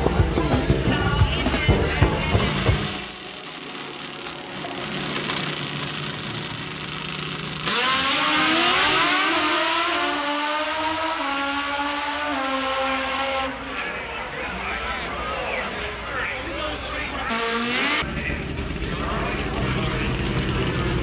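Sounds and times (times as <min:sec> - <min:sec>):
drag motorcycles launching: 0:00.0 - 0:14.4, 0:15.9 - 0:21.0
motorcycle engines accelerating: 0:00.0 - 0:21.0.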